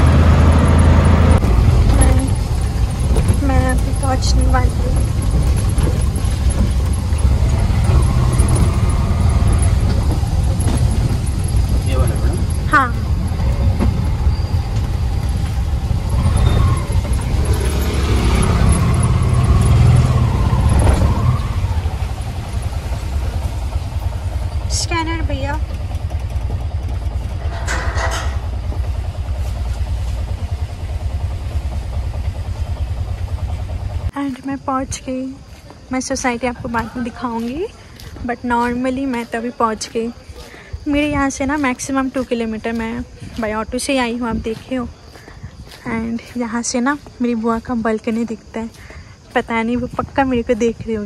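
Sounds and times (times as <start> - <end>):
auto-rickshaw engine rumble: 0.0 - 51.0
road noise: 0.0 - 51.0.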